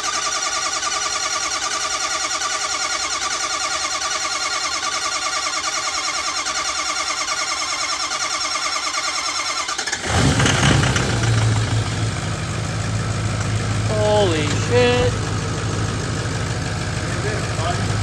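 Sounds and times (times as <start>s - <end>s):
diesel engine cranking: 0.0s - 18.0s
diesel engine idling: 0.0s - 18.0s.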